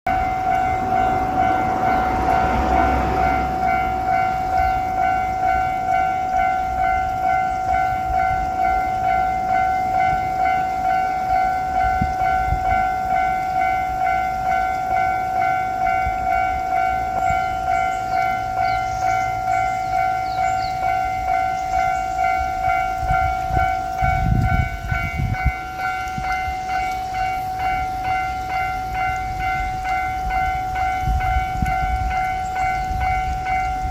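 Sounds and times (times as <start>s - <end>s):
diesel railcar rumbling: 0.1s - 33.9s
level-crossing warning bell ringing: 0.1s - 33.9s.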